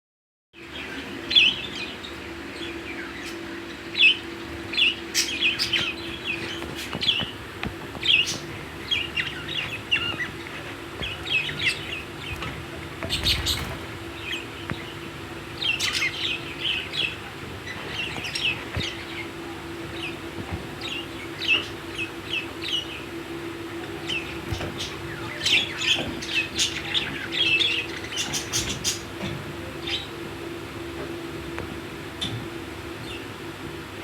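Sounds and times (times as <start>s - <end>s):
steady low hum: 0.6s - 34.0s
budgerigars chirping: 0.8s - 23.1s, 24.0s - 29.1s.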